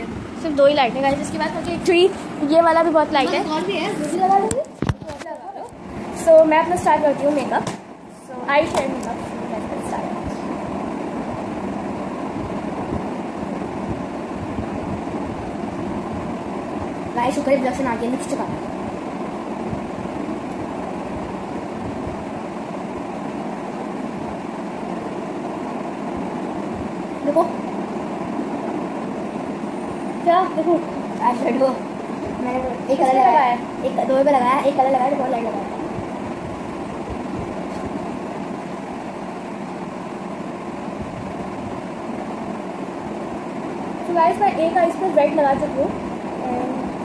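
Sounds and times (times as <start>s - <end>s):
low mechanical drone: 0.0s - 47.0s
room fan humming: 0.0s - 47.0s.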